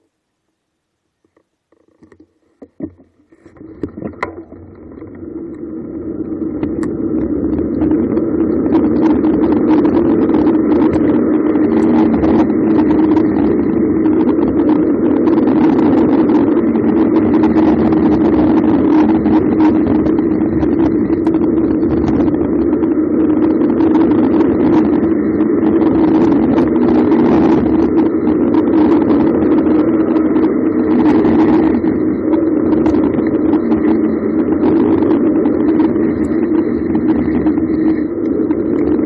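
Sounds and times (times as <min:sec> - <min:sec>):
bicycle tyre noise on asphalt: 0:01.2 - 0:39.0
wind rushing over microphone: 0:03.5 - 0:39.0.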